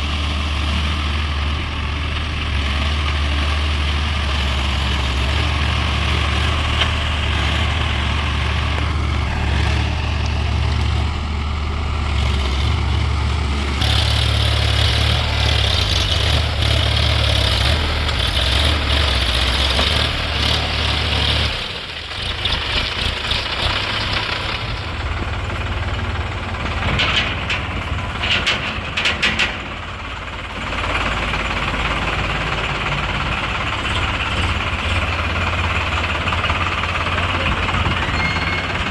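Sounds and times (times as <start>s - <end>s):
diesel tractor engines running: 0.0s - 38.9s.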